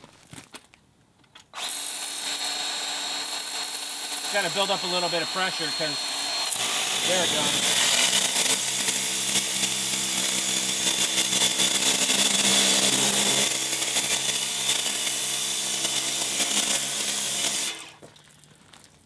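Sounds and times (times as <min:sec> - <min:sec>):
pressure washer pump humming: 0:01.6 - 0:18.0.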